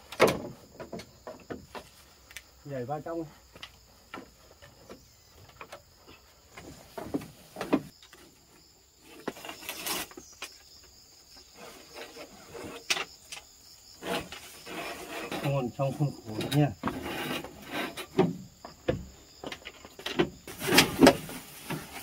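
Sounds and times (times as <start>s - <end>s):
rustle: 0.0s - 22.0s
high insect drone: 0.2s - 22.0s.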